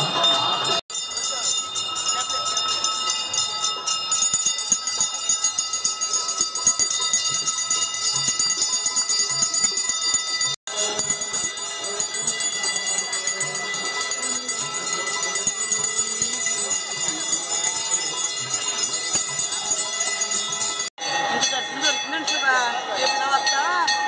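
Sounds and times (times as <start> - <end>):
bells ringing fast: 0.0 - 24.0.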